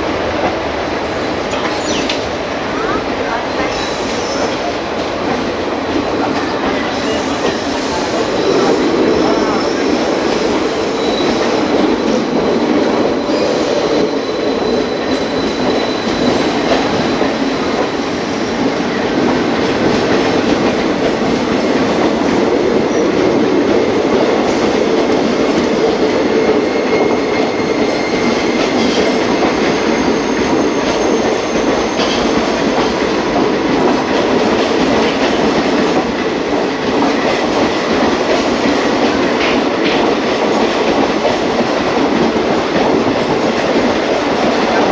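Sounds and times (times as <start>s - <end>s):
passenger train rolling past: 0.0s - 44.9s.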